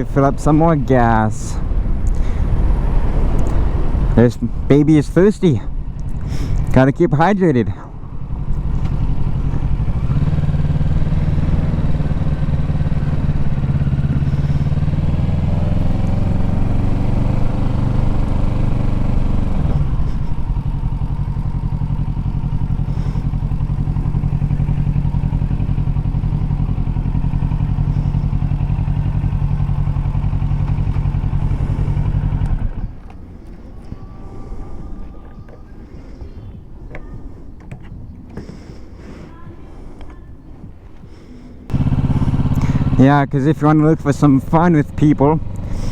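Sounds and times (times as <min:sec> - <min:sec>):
motorcycle engine at low revs: 0:00.0 - 0:45.9.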